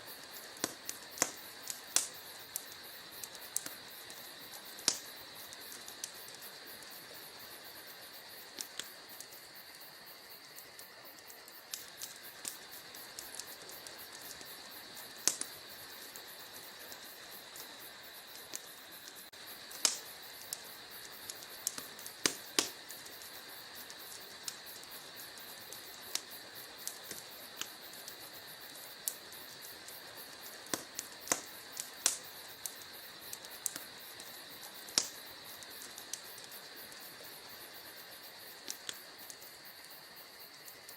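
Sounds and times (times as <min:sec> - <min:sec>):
faint hiss: 0:00.0 - 0:40.9
wood fire crackling: 0:00.0 - 0:40.9.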